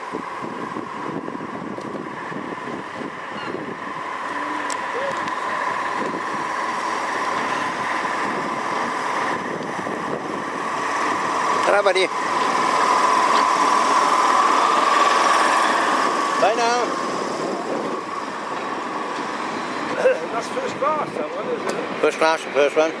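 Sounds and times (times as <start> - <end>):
locomotive high hum: 0.0 - 23.0
train approaching: 0.0 - 23.0.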